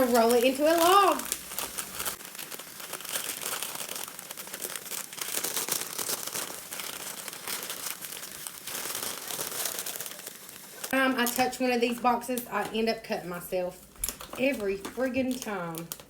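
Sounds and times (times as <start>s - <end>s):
parchment paper crinkling: 0.0s - 16.0s.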